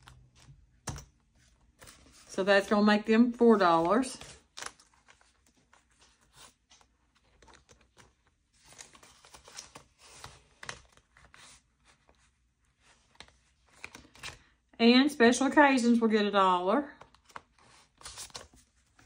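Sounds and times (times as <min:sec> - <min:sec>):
paper rustling and crinkling: 0:00.0 - 0:02.3, 0:03.5 - 0:14.5, 0:17.0 - 0:19.0.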